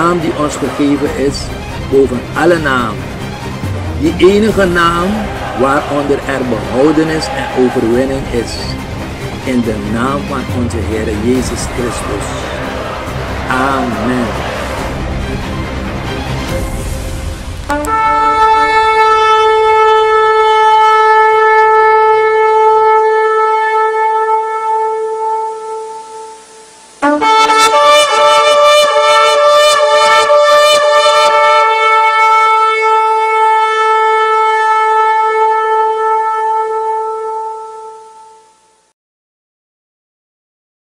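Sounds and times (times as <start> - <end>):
long horn blasts: 0.0 - 38.9.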